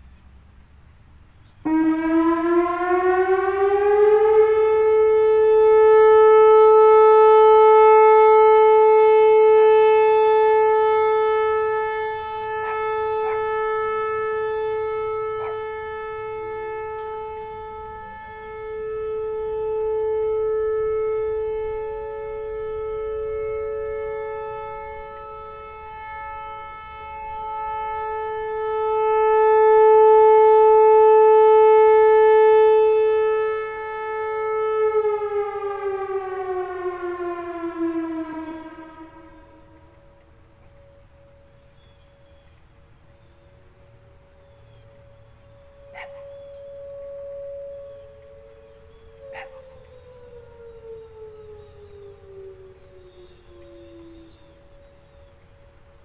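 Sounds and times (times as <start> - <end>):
rotating warning siren: 0.0 - 56.0.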